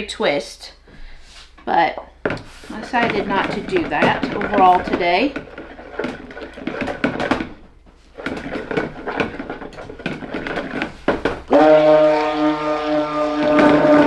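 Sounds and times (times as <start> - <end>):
stick blender humming: 2.2 - 14.0.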